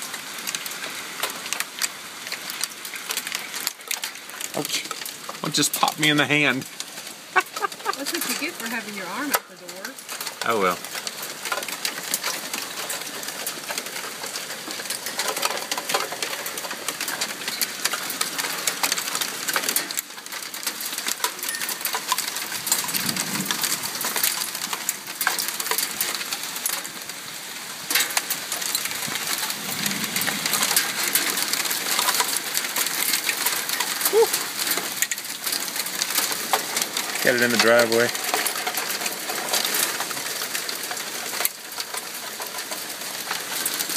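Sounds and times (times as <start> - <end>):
hailstones pelting the ground: 0.0 - 43.9.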